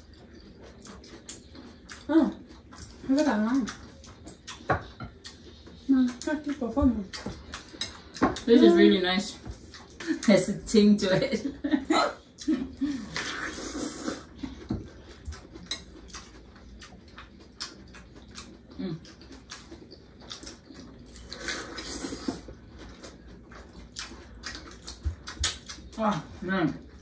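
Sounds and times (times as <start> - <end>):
chewing and crunching lettuce: 0.0 - 11.1, 12.3 - 27.0.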